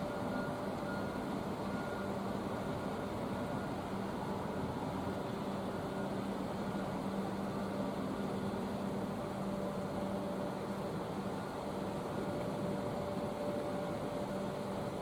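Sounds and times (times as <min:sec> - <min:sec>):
ship engine and ventilation hum: 0:00.0 - 0:15.0.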